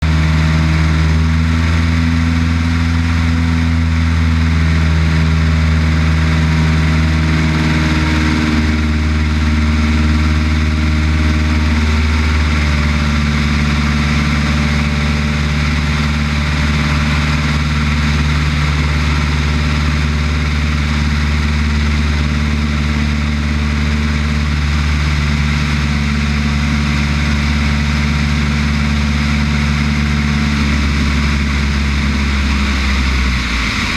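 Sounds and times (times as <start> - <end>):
light aircraft engine and propeller: 0.0 - 33.9.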